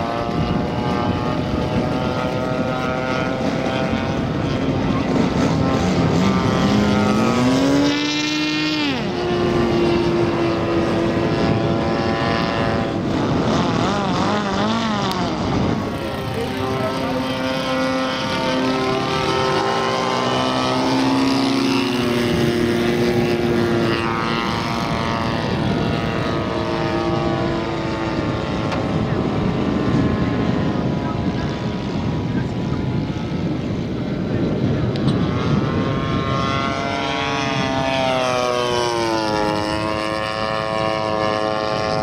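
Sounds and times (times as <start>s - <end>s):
model aeroplane engine: 0.0s - 42.0s.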